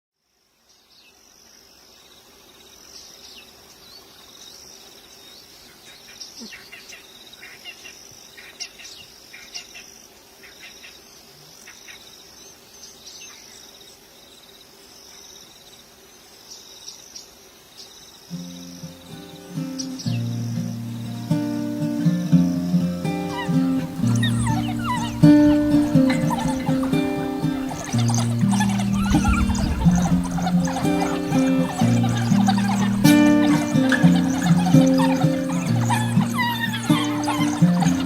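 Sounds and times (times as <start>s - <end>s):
insects trilling: 0.5s - 38.0s
birds chirping: 2.2s - 38.0s.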